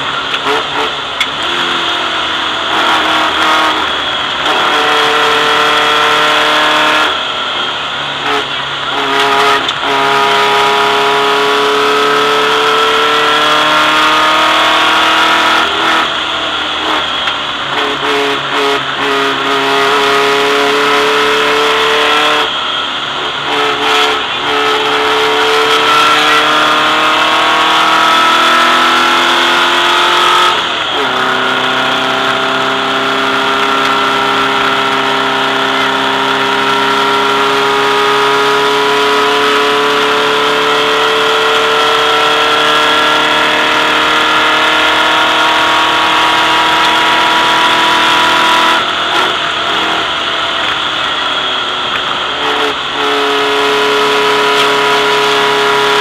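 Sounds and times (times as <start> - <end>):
race car engine pulling hard: 0.0 - 56.0.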